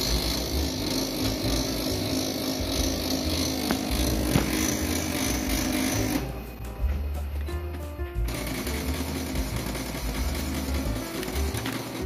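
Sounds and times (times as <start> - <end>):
copier mechanical grinding: 0.0 - 12.0.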